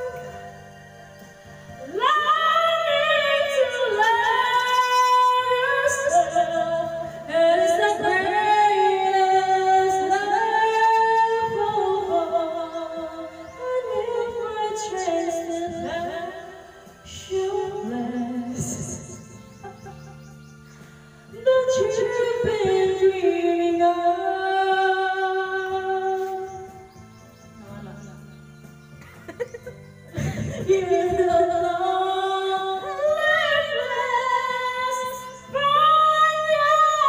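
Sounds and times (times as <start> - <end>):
woman singing karaoke: 0.0 - 0.5, 1.8 - 19.3, 21.3 - 26.7, 30.2 - 37.0.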